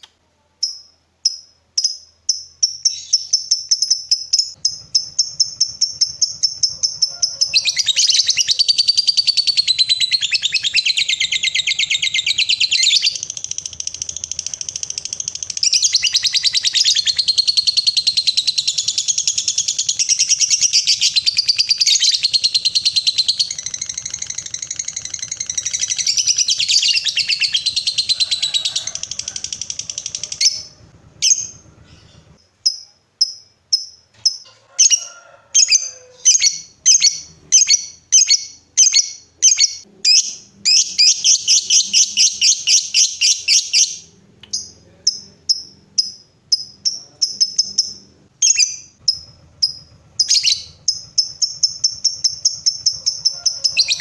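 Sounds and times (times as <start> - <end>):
sharp high bird chirps: 0.6 - 34.5, 35.6 - 54.0
bird chattering trill: 0.6 - 35.0, 35.6 - 54.0.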